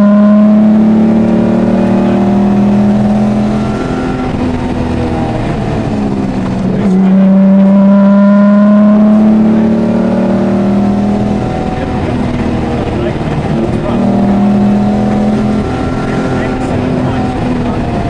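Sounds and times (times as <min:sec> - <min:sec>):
car engine pulling hard: 0:00.0 - 0:18.0.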